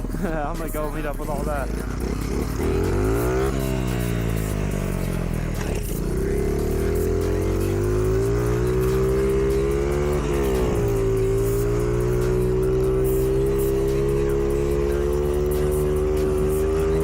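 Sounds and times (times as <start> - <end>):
mini bike engine revving: 1.4 - 17.0.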